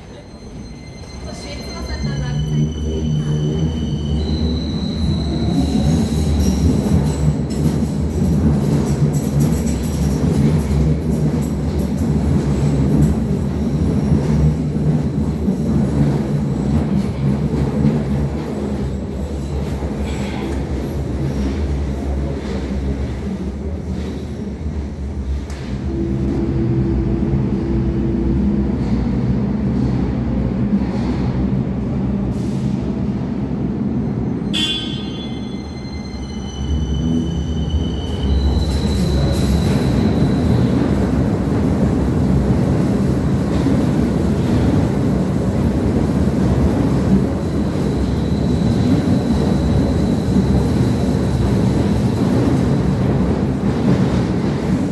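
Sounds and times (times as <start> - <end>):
wheels squealing on rails: 0.0 - 26.1, 34.3 - 54.9
train rumble and hum: 0.0 - 54.9.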